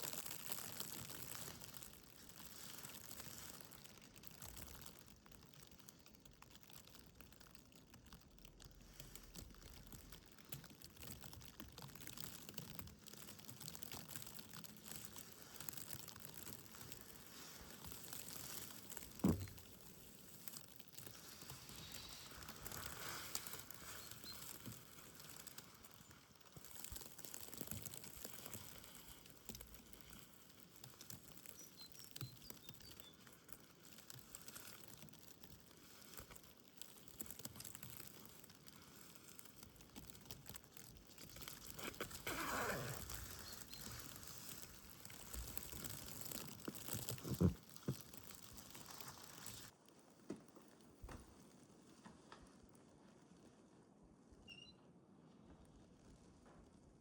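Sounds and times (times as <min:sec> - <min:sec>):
soft crackly patter: 0:00.0 - 0:57.0.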